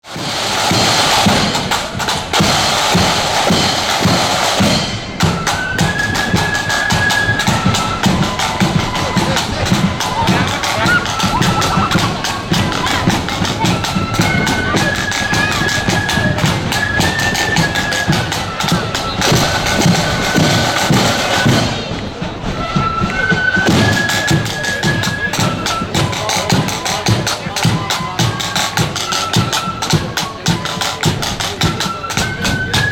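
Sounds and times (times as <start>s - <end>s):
marching band drums and cymbals: 0.0s - 32.9s
high held melody: 0.4s - 32.6s.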